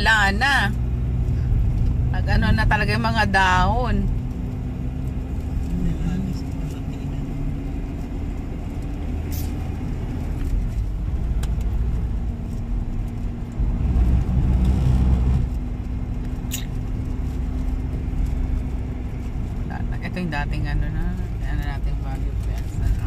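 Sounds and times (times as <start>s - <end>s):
constant hum: 0.0s - 23.0s
low engine and road rumble: 0.0s - 23.0s.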